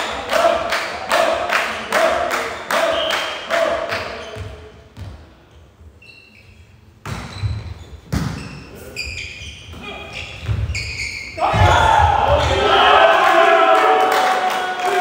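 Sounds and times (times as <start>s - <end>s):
volleyball struck in a hall: 0.0s - 15.0s.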